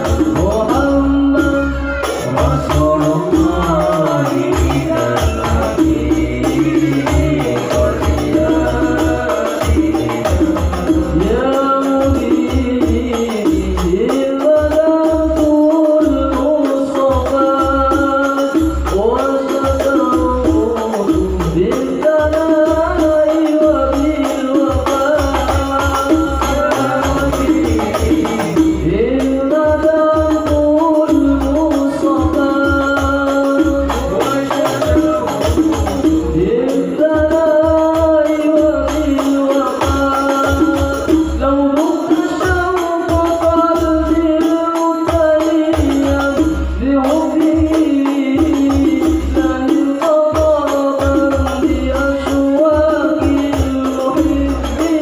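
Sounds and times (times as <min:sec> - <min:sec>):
low percussion beat: 0:00.0 - 0:55.0
male group singing: 0:00.0 - 0:55.0.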